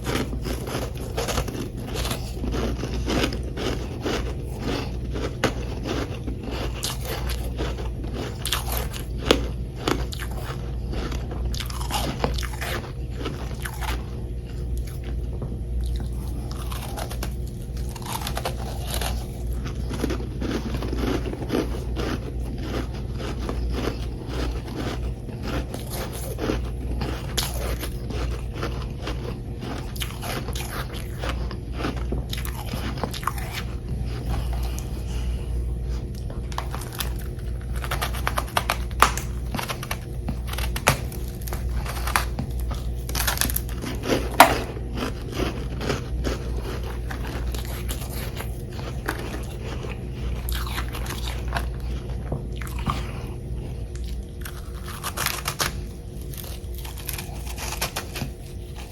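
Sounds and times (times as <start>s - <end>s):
crunching frozen frost: 0.0s - 15.2s, 15.8s - 58.9s
steady low hum: 0.0s - 58.9s.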